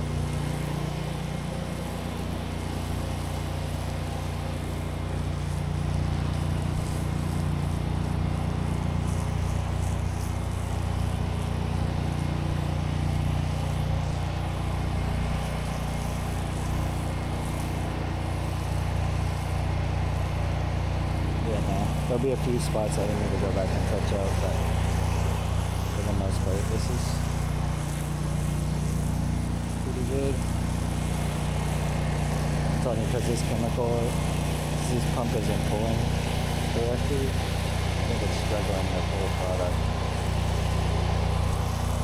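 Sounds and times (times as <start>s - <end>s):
pressure washer engine hum: 0.0s - 42.0s
water spraying on concrete: 0.0s - 42.0s.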